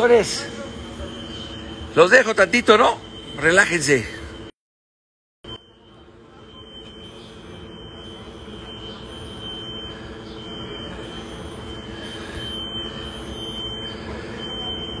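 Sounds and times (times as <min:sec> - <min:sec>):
fire alarm tone: 0:00.0 - 0:04.5, 0:05.4 - 0:15.0.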